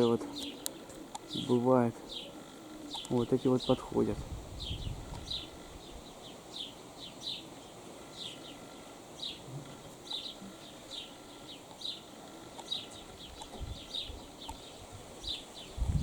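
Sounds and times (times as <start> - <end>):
songbird chirping: 0.0 - 16.0
wind rustle: 0.0 - 16.0.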